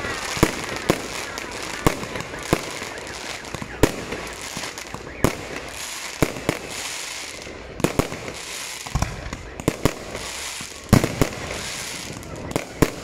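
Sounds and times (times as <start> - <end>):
steady high hiss: 0.0 - 12.8.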